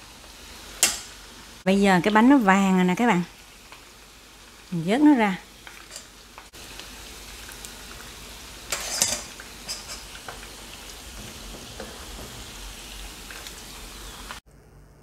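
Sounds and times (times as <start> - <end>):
fritters sizzling in hot oil: 0.0 - 14.4.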